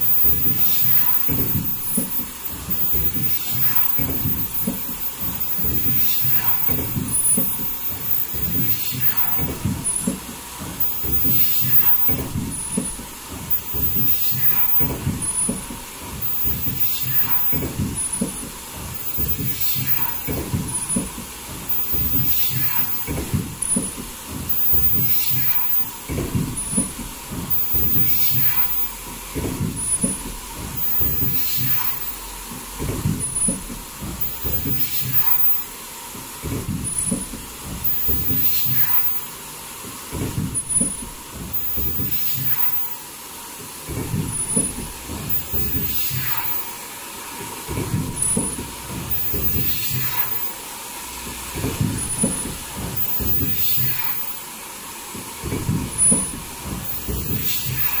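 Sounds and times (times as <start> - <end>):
air hiss: 0.0 - 58.0
machine mechanical clatter: 0.0 - 58.0.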